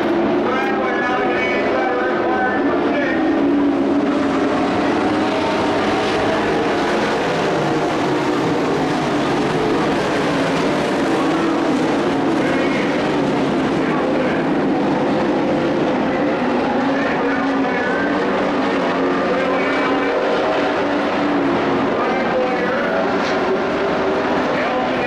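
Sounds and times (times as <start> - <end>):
race truck engines droning: 0.0 - 25.0.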